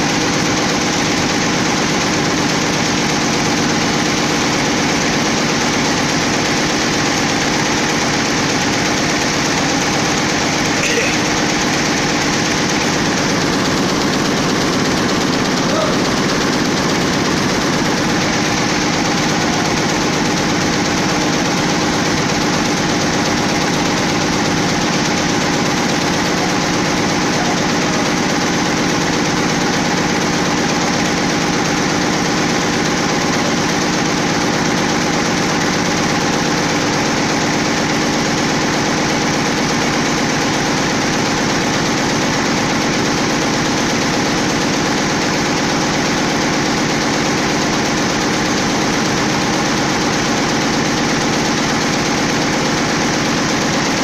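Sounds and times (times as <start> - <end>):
embroidery machine clattering: 0.0 - 54.0.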